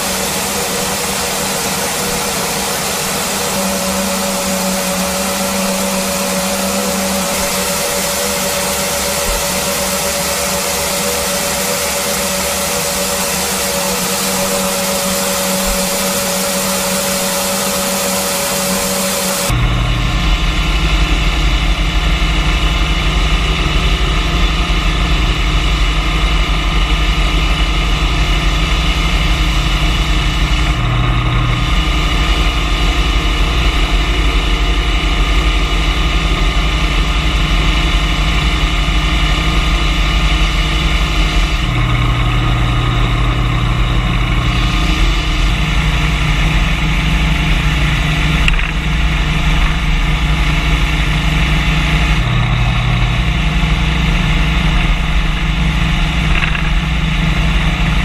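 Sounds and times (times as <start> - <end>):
floor sander humming: 0.0 - 58.0.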